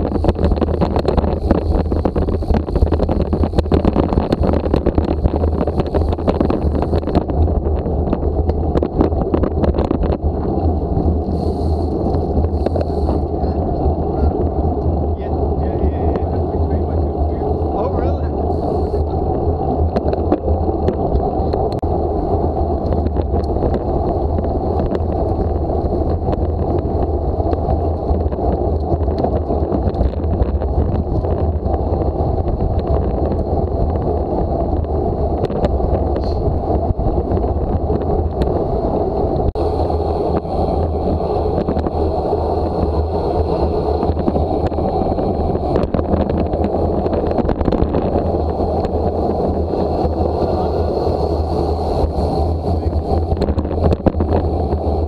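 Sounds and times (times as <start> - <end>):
tyre and road noise: 0.0 - 55.0
wind rushing over microphone: 0.0 - 55.0.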